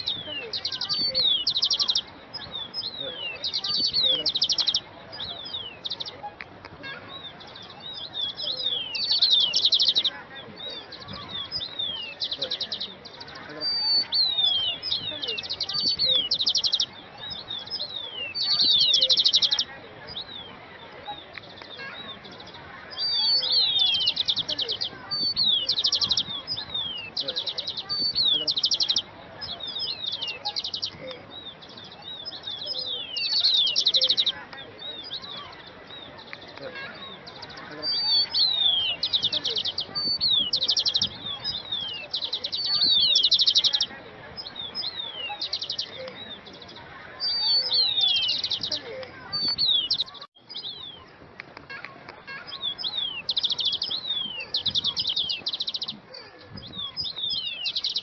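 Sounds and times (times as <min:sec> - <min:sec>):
birds chirping and singing: 0:00.0 - 0:58.0.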